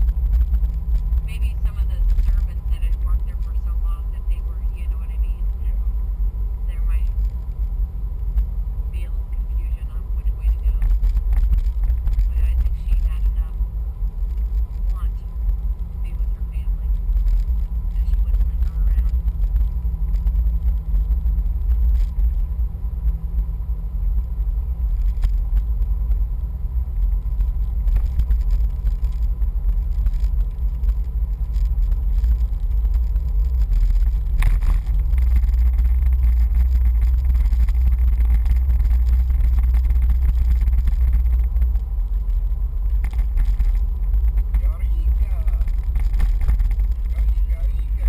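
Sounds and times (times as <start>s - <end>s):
vehicle engine and road rumble: 0.0s - 48.0s.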